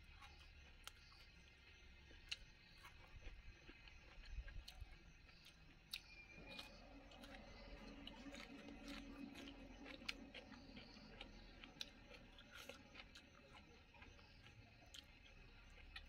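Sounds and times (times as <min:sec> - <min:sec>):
chewing food: 0:00.0 - 0:16.0.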